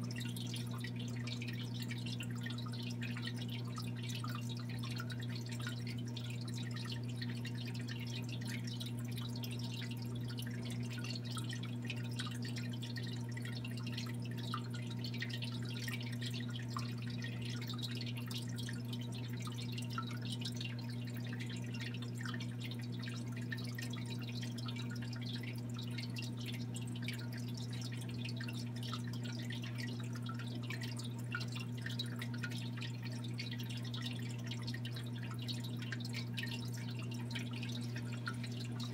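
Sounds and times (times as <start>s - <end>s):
low pump hum: 0.0s - 38.9s
trickling water and bubbles: 0.0s - 38.9s.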